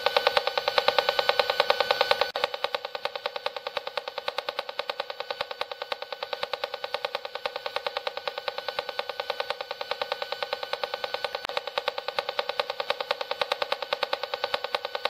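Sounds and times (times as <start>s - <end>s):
rapid buzzing pulse: 0.0s - 15.0s.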